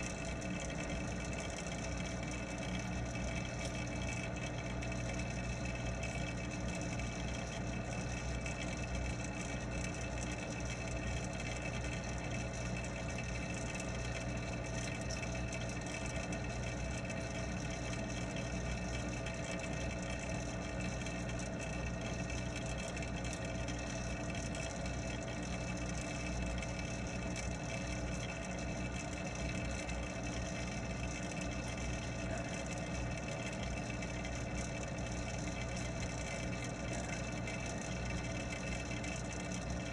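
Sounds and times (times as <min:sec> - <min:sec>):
pond pump humming underwater: 0:00.0 - 0:39.9.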